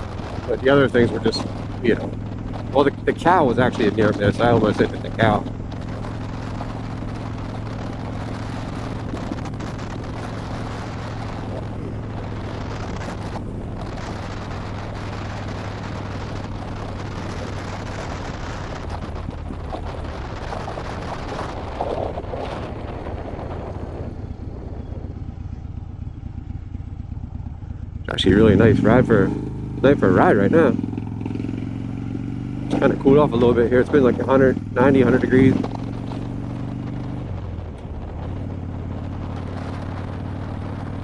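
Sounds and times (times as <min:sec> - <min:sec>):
motorcycle engine cruising: 0:00.0 - 0:41.0
wind rushing over microphone: 0:00.0 - 0:41.0.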